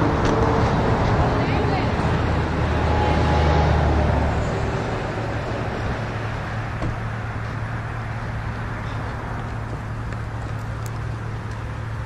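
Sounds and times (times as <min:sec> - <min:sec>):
road and street noise: 0:00.0 - 0:12.0
vehicle engine humming: 0:00.0 - 0:12.0.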